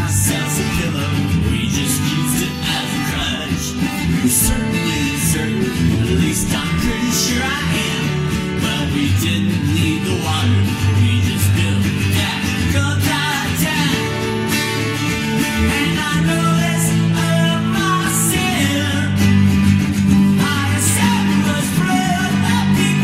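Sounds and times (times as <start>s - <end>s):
man singing: 0.0s - 23.0s
twelve-string guitar strumming: 0.0s - 23.0s.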